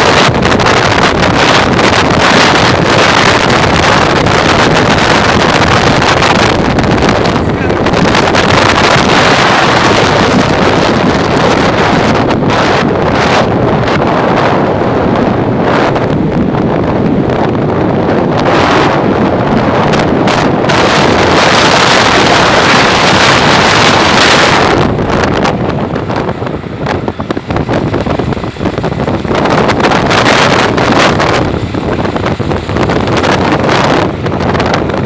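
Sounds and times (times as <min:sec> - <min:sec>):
storm wind buffeting microphone: 0:00.0 - 0:35.0.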